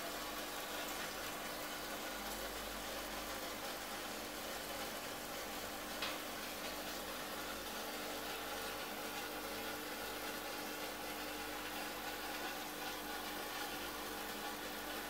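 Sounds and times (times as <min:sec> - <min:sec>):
aquarium pumps humming: 0:00.0 - 0:15.0.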